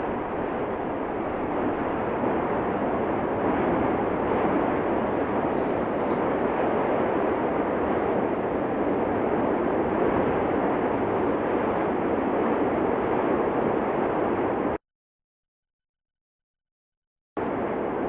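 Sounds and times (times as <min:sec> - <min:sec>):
steady rushing noise: 0:00.0 - 0:14.8, 0:17.4 - 0:18.0.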